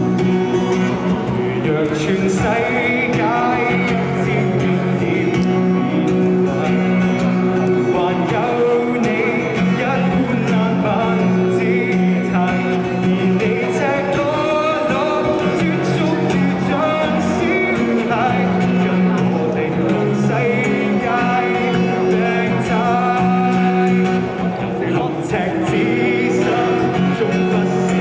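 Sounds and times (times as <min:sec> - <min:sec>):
acoustic guitar: 0:00.0 - 0:28.0
man singing into a microphone: 0:00.0 - 0:28.0.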